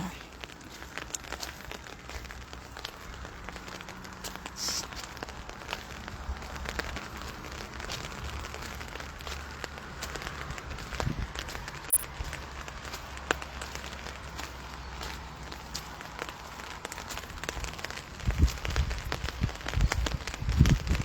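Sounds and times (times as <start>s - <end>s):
light rain falling: 0.0s - 21.0s
raindrops ticking close: 0.0s - 21.0s.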